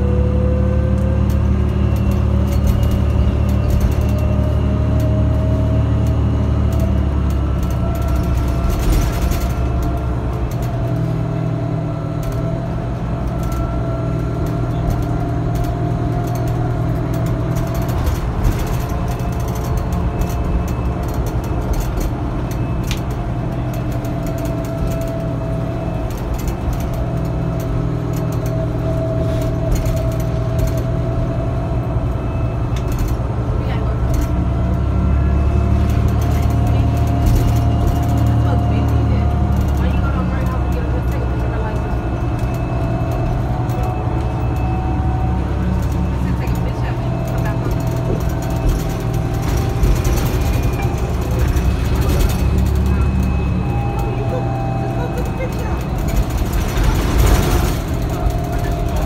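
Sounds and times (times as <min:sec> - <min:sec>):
bus drive whine: 0:00.0 - 0:59.0
diesel engine: 0:00.0 - 0:59.0
road rumble: 0:00.0 - 0:59.0.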